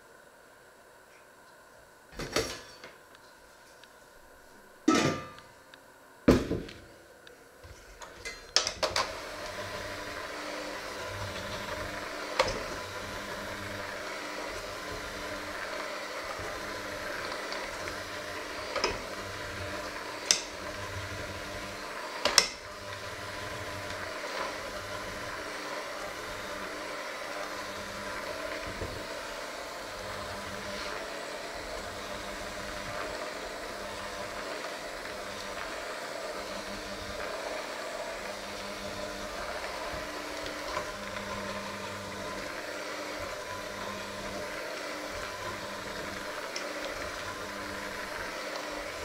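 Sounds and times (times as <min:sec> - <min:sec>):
electric hand mixer kneading dough: 0:06.2 - 0:07.0, 0:07.6 - 0:49.0.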